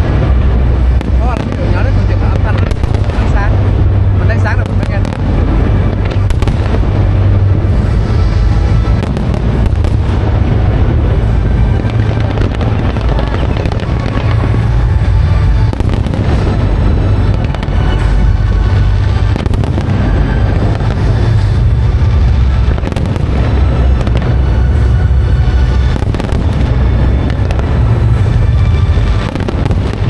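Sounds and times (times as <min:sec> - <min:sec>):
fireworks booming: 0:00.0 - 0:30.0
fireworks crackling bursts: 0:00.0 - 0:30.0
music playing: 0:00.0 - 0:30.0.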